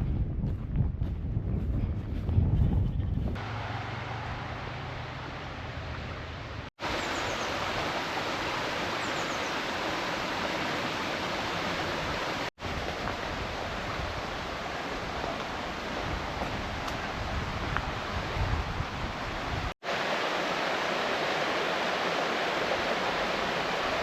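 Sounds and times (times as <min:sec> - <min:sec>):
rushing stream water: 0:03.4 - 0:24.0.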